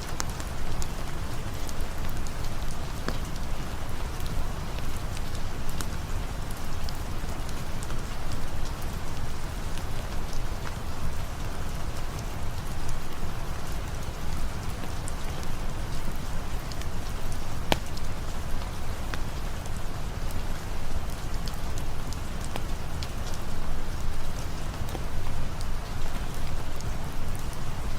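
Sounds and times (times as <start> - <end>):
sharp drip ticks: 0.0 - 27.9
steady rain falling: 0.0 - 27.9.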